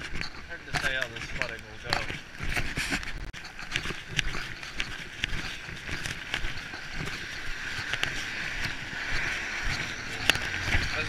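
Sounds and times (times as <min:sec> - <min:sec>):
sharp taps and knocks: 0:00.0 - 0:11.0.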